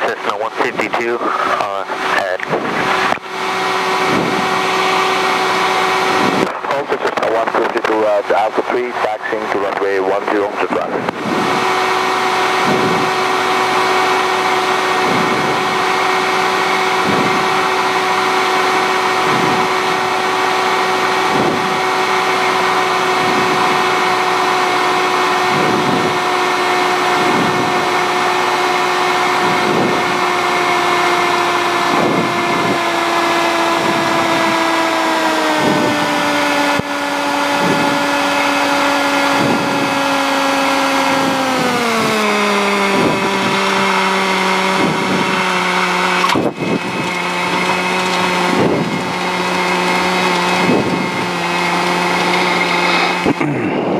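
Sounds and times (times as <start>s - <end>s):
aircraft engine running in cabin: 0.0s - 53.9s.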